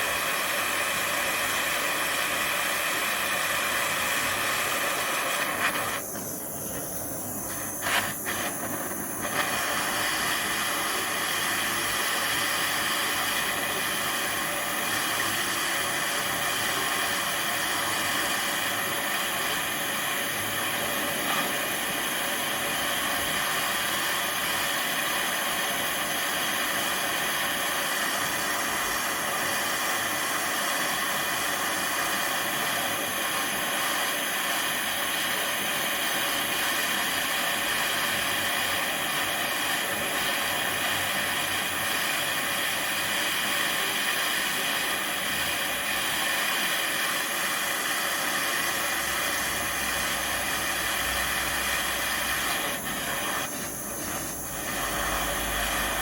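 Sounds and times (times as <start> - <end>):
gas flame hissing: 0.0 - 56.0.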